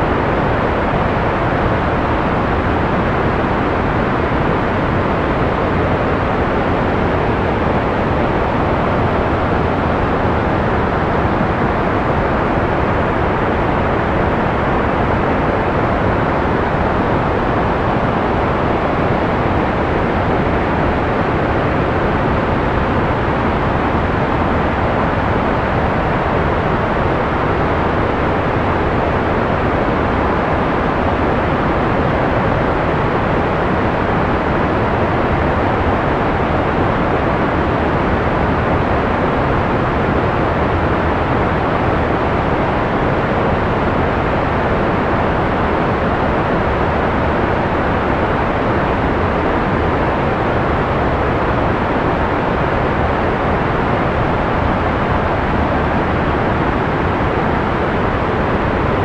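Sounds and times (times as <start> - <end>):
muffled white noise hiss: 0.0 - 59.0.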